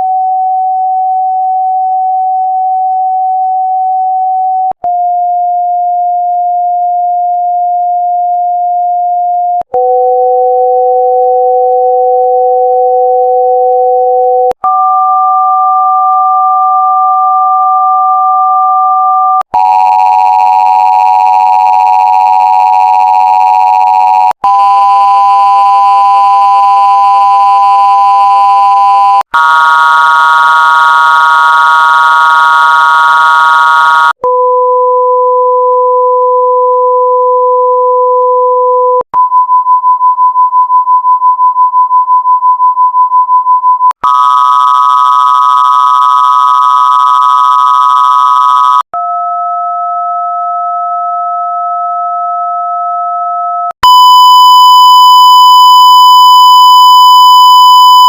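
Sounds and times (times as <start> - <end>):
electronic test tone beep: 1.0 - 48.8, 53.7 - 58.0.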